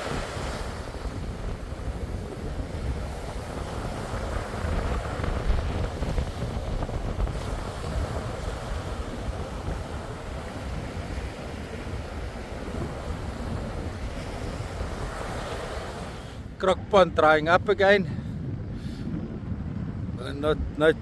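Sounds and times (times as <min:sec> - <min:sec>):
surf washing on beach: 0:00.0 - 0:18.0
wind buffeting microphone: 0:00.0 - 0:21.0.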